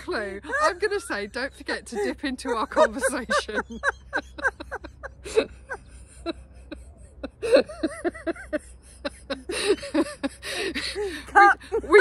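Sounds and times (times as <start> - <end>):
women laughing: 0.0 - 12.0.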